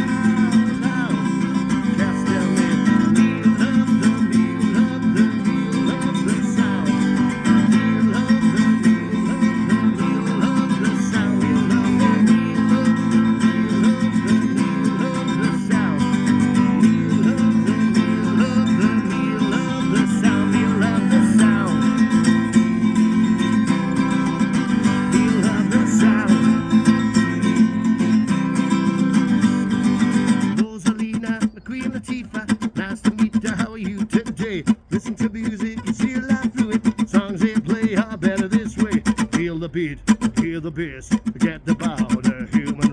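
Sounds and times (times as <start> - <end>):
guitar music: 0.0 - 42.9.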